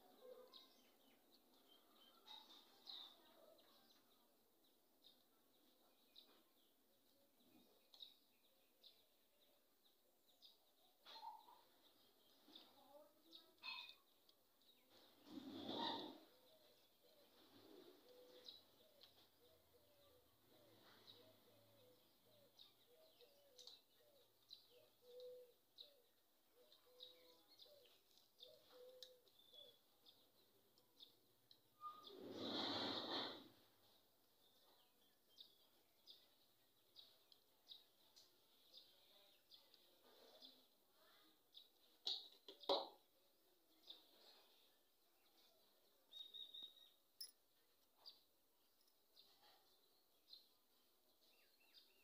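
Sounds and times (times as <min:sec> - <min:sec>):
faint bird chirps: 0:00.0 - 0:33.2, 0:43.4 - 0:52.0.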